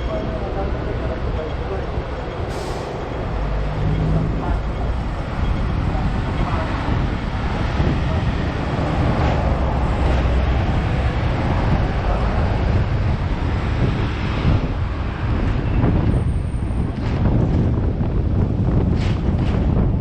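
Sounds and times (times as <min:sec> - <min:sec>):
tram rumbling on rails: 0:00.0 - 0:20.0
wind buffeting microphone: 0:00.0 - 0:20.0.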